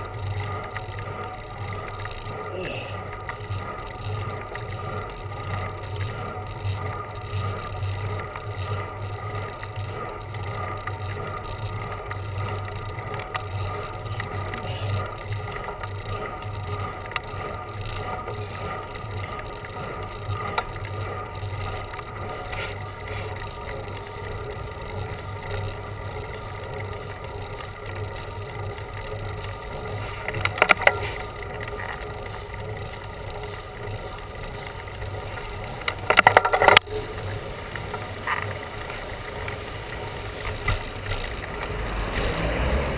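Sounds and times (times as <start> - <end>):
bicycle rolling and wind noise: 0.0 - 42.9
faint whirring hum: 0.0 - 42.9.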